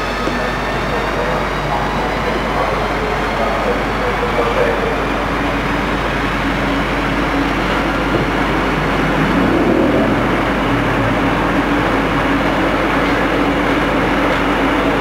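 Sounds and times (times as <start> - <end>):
faint locomotive hum: 0.0 - 15.0
train wheels rumbling on rails: 0.0 - 15.0.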